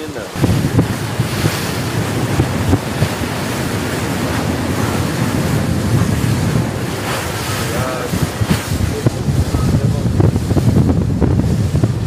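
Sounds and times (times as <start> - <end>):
water rushing past boat hull: 0.0 - 12.0
wind buffeting microphone: 0.0 - 12.0.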